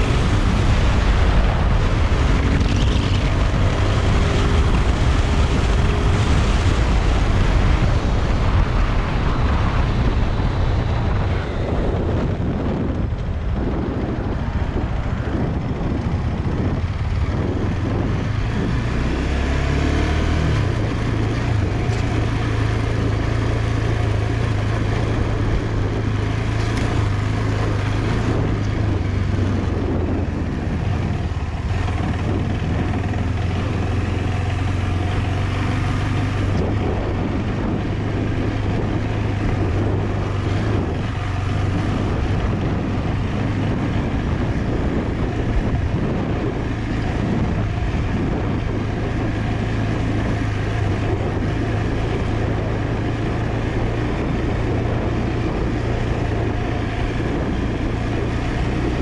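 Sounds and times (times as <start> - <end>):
motorcycle engine running: 0.0 - 59.0
wind and tyre noise: 0.0 - 59.0.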